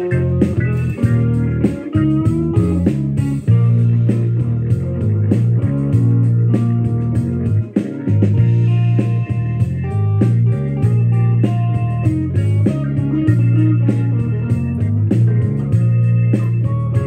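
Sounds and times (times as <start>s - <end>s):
bass line: 0.0s - 17.0s
electric guitar blues line: 0.0s - 17.0s.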